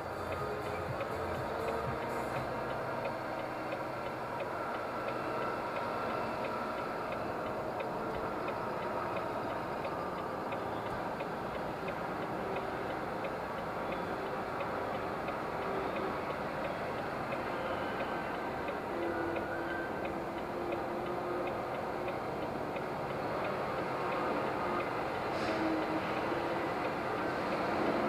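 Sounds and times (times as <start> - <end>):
engine and tyre hum: 0.0 - 28.0.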